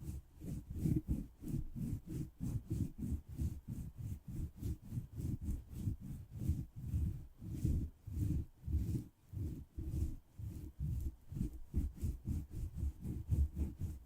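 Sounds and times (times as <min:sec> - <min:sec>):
rubbing against microphone: 0:00.0 - 0:14.0.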